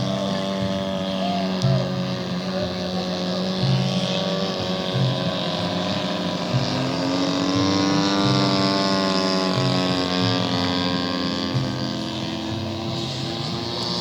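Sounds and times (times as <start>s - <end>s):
model airplane engines running: 0.0s - 14.0s.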